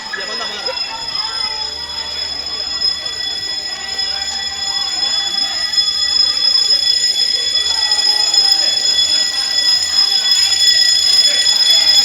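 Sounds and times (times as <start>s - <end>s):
fire alarm shrill tone: 0.0s - 12.0s.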